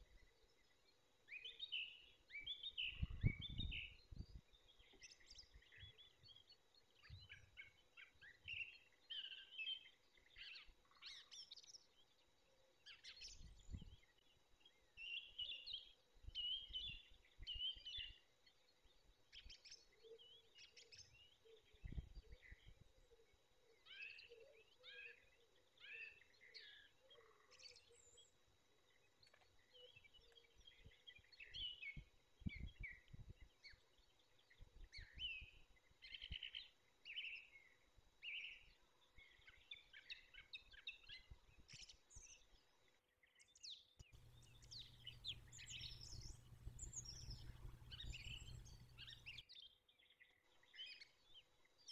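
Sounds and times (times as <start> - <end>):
songbirds chirping: 0.0 - 51.9.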